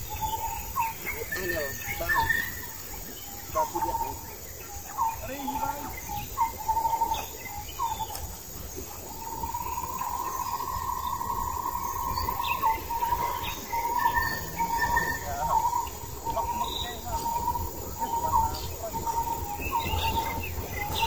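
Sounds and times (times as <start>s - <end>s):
bird chirps: 0.0s - 21.0s
insects droning: 0.0s - 21.0s.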